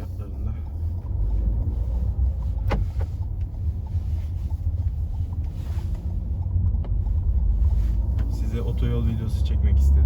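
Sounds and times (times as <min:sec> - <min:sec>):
car interior road and engine rumble: 0:00.0 - 0:10.0.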